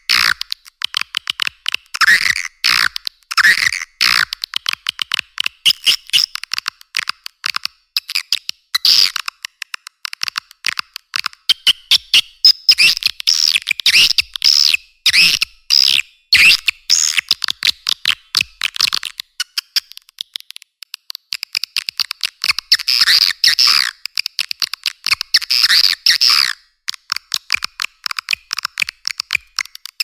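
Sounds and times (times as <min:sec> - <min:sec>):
swiftlet clicks and chirps: 0:00.0 - 0:30.0.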